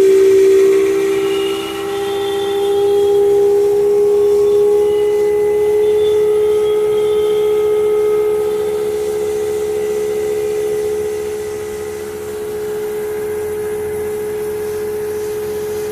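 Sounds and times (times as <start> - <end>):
air conditioner humming: 0.0 - 15.9.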